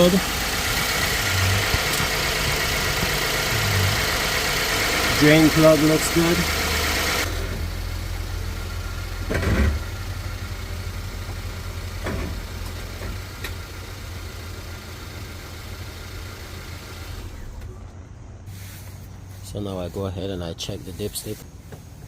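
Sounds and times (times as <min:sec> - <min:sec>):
car engine idling: 0:00.0 - 0:20.4.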